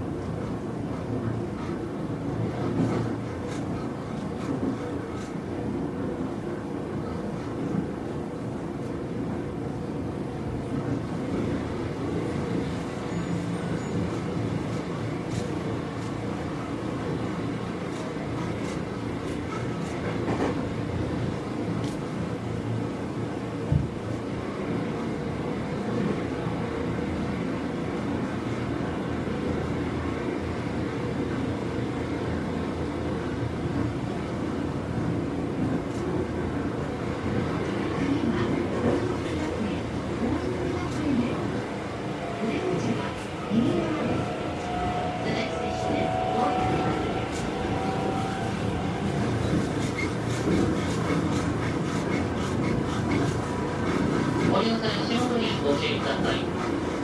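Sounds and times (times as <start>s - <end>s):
train motor and wheels rumbling: 0.0s - 57.0s.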